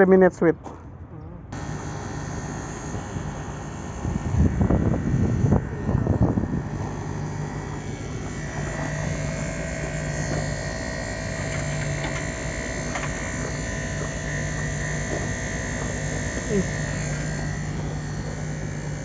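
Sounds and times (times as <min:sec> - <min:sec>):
air conditioner unit droning: 0:01.5 - 0:19.0
steady higher tone: 0:01.5 - 0:19.0.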